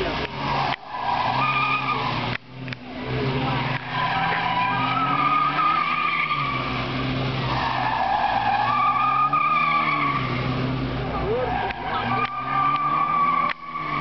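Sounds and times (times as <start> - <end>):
car engine revving: 0.0 - 14.0
tyres squealing: 0.0 - 14.0.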